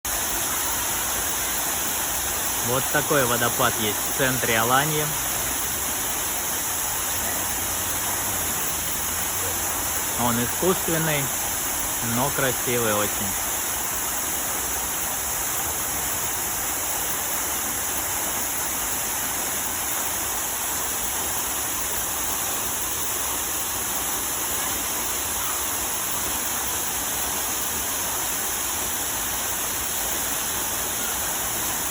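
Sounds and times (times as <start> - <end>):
water cascading down fountain: 0.0 - 31.9.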